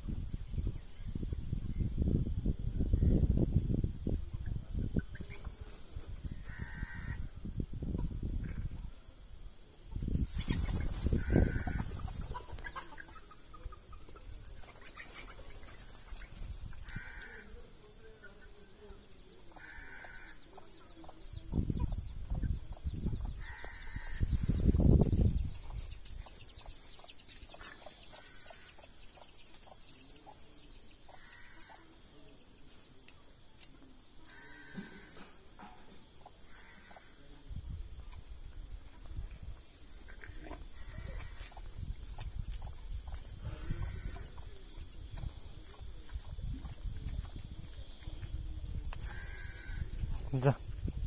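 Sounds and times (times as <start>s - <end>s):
chickens clucking: 0.1s - 51.0s.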